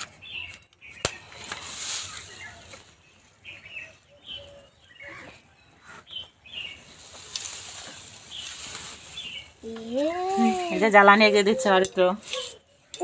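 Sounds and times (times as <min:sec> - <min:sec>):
small birds chirping: 0:00.0 - 0:13.0
dry straw rustling and crackling: 0:00.2 - 0:13.0.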